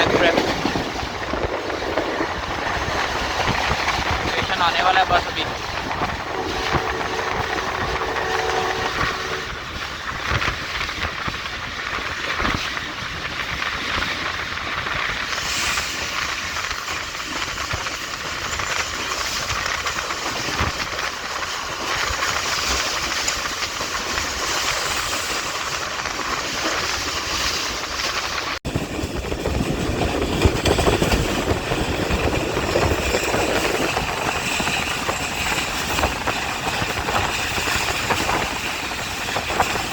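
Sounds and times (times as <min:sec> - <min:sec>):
train rushing noise: 0:00.0 - 0:39.9
wheels clattering over rail joints: 0:00.0 - 0:39.9.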